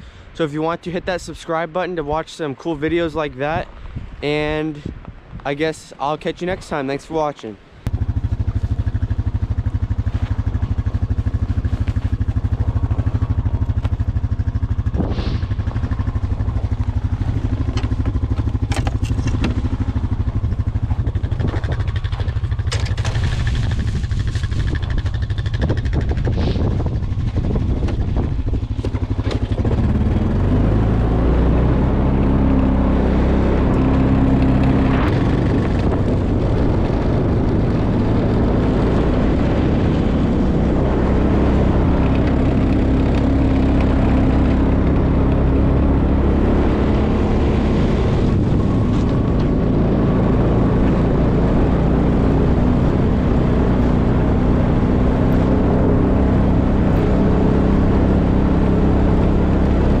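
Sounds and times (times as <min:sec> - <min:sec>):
atv engine running: 0:07.8 - 1:00.0.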